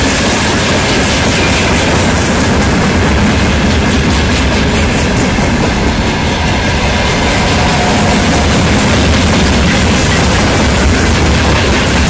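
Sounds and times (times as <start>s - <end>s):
rumble of steel wheels on rails: 0.0s - 12.0s
wheels clacking over rail joints: 0.0s - 12.0s.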